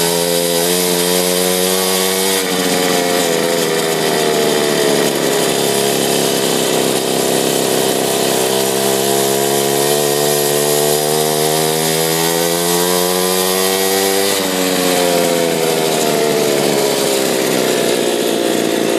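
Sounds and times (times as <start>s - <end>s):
mini bike engine revving: 0.0s - 18.9s.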